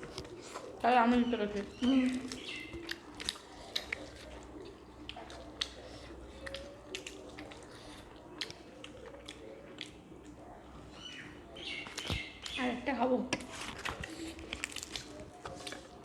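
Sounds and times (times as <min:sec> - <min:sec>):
low room hum: 0:00.0 - 0:16.0
mouth chewing: 0:00.0 - 0:16.0.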